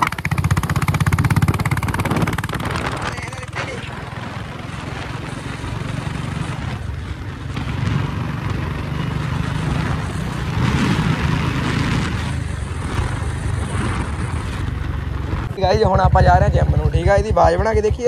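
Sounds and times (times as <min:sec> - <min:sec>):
motorcycle engine and exhaust: 0:00.0 - 0:18.0
wind and road rush: 0:00.0 - 0:18.0.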